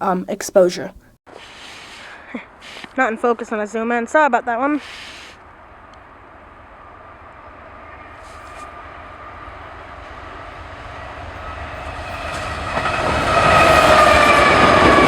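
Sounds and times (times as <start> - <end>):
train rumbling: 2.3 - 15.0.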